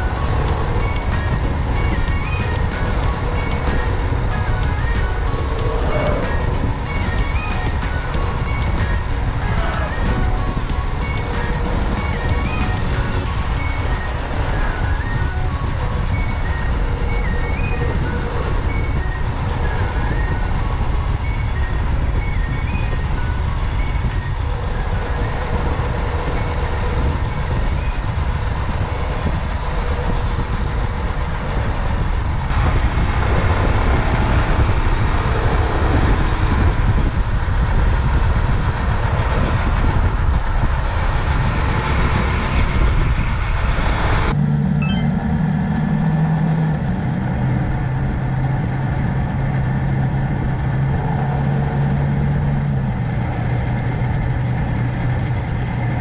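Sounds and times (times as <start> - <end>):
heavy rushing wind noise: 0.0 - 56.0.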